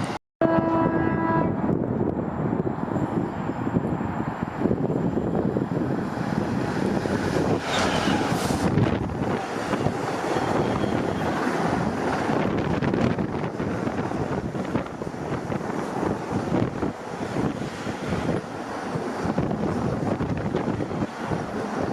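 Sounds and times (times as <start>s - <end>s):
wind buffeting microphone: 0.0s - 21.9s
train wheels on rail: 1.5s - 21.9s.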